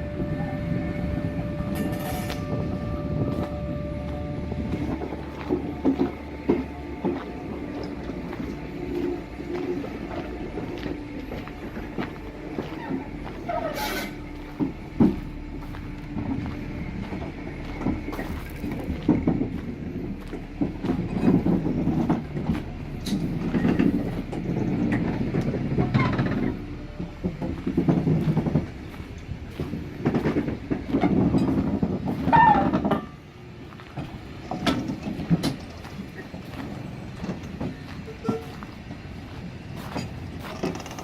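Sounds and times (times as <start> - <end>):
wheel squeals: 0.0 - 15.4, 16.2 - 33.3, 34.0 - 39.0, 39.9 - 41.0
train wheels clanking over rail joints: 0.0 - 41.0.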